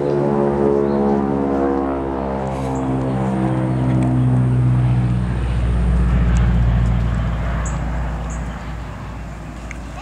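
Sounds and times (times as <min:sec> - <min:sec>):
airplane passing low overhead: 0:00.0 - 0:10.0.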